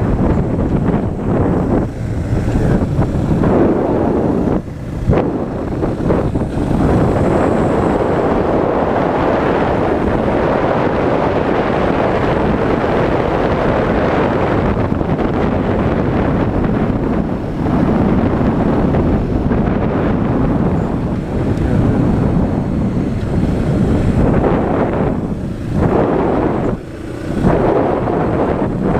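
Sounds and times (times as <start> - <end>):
motorcycle engine running: 0.0 - 28.9
wind buffeting microphone: 0.0 - 28.9.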